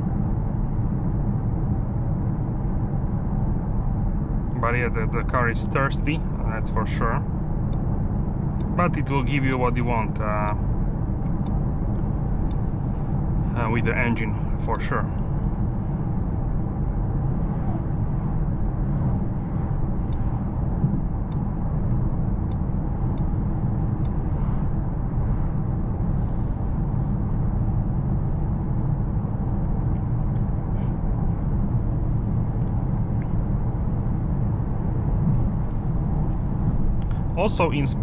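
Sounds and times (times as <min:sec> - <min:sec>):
car engine rumble inside cabin: 0:00.0 - 0:38.0.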